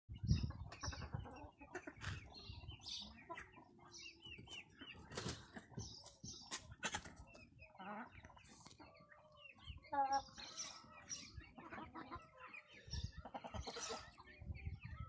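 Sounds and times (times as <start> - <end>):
chickens clucking and chirping: 0.1 - 15.0.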